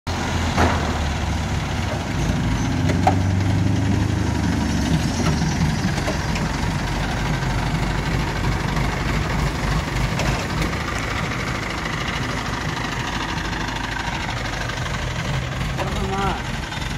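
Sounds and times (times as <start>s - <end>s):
crane engine running: 0.1s - 16.9s.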